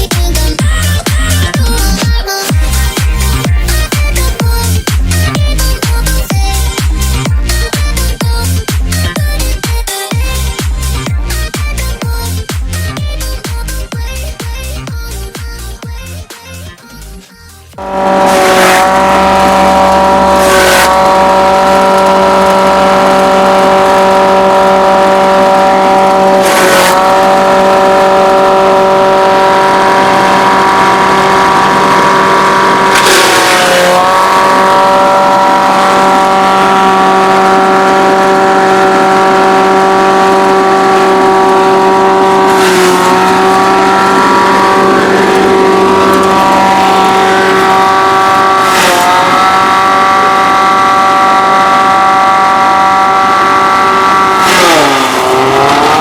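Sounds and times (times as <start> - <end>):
shredder machine whining: 0.0 - 17.1, 17.7 - 56.0.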